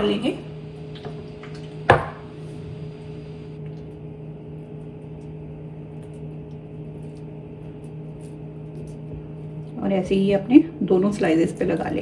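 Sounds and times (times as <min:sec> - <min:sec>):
low two-tone machine hum: 0:00.0 - 0:12.0.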